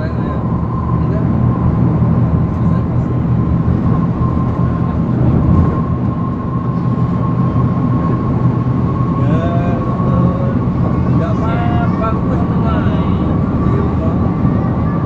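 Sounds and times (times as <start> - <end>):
car interior road rumble: 0.0 - 15.0
high whine: 0.0 - 15.0.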